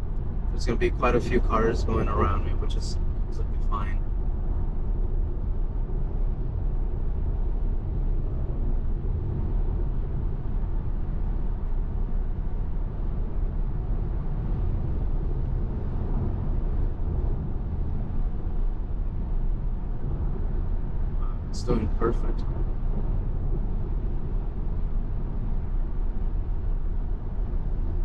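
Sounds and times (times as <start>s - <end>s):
road and tyre rumble in car: 0.0s - 28.0s.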